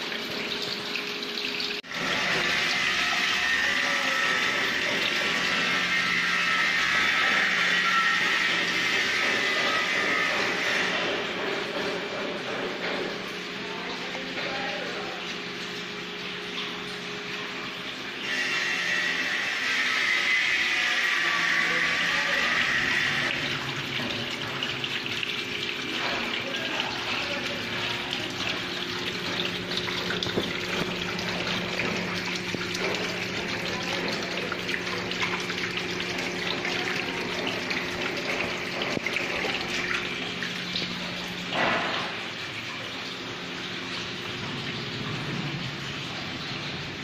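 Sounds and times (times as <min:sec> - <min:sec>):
water running down glass: 0:00.0 - 0:12.5, 0:13.2 - 0:47.0.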